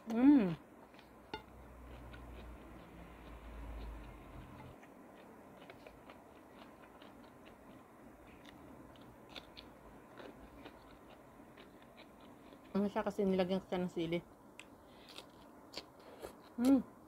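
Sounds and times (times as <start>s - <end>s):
person chewing food: 0.8s - 12.8s, 14.6s - 16.7s.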